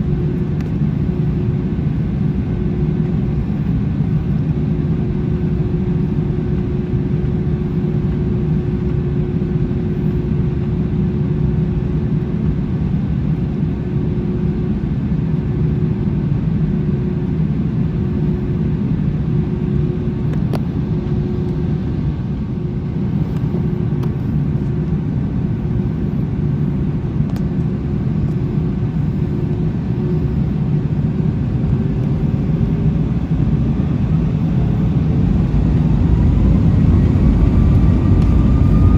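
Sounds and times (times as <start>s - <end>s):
jet engines idling in cabin: 0.0s - 38.9s.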